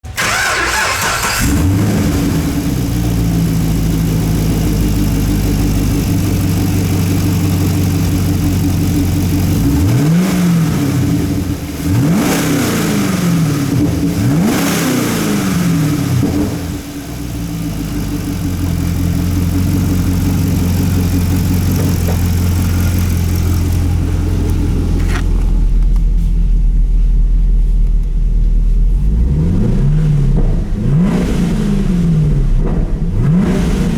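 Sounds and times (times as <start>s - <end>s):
car engine idling: 0.0s - 33.9s
car engine starting: 0.0s - 33.9s
car engine revving: 0.1s - 26.2s, 28.8s - 33.9s.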